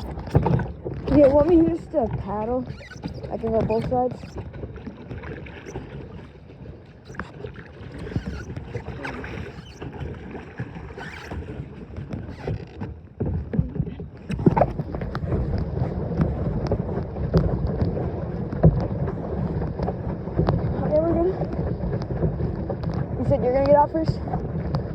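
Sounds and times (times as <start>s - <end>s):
paddle knocking against hull: 0.0s - 24.9s
paddle splashing in water: 0.0s - 24.9s.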